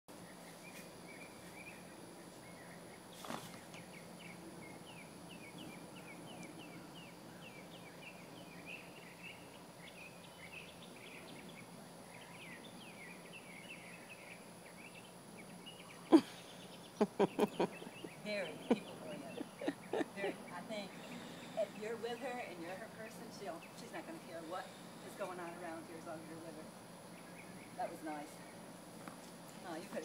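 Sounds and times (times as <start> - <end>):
faint birdsong: 0.1 - 30.0.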